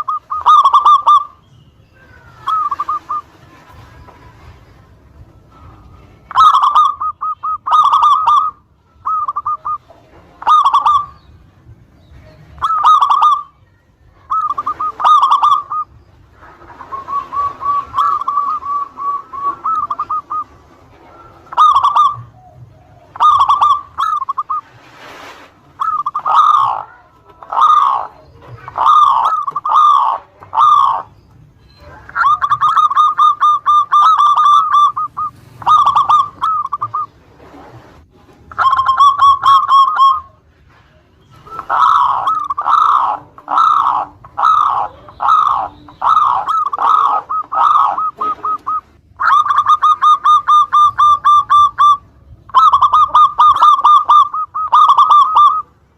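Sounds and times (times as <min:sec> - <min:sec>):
dove cooing: 0:00.0 - 0:01.4, 0:02.0 - 0:55.9.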